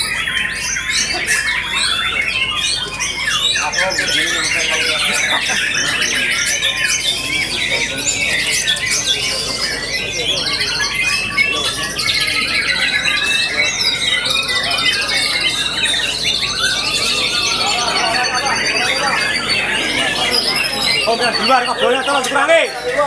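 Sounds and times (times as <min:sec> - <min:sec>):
birds singing whistles and trills: 0:00.0 - 0:23.0.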